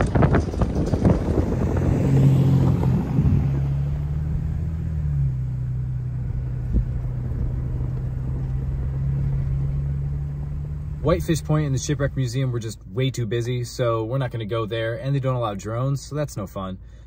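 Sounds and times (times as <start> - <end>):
pickup engine drone: 0.0 - 17.0
road rumble: 0.0 - 17.0.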